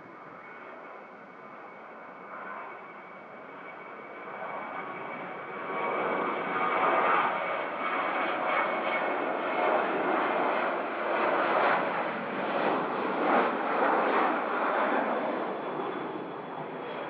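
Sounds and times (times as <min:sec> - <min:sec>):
airliner engines rushing: 0:00.0 - 0:17.0
faint engine whine: 0:00.0 - 0:17.0.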